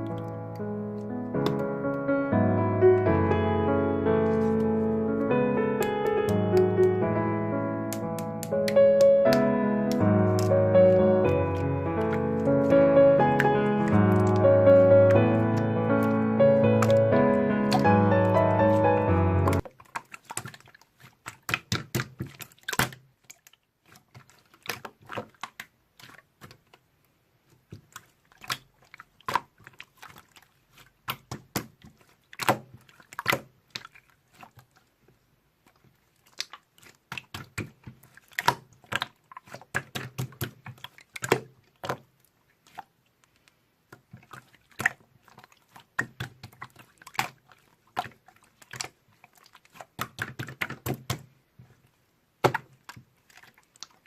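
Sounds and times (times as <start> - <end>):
slime squelching and popping: 0.0 - 2.2, 4.0 - 54.0.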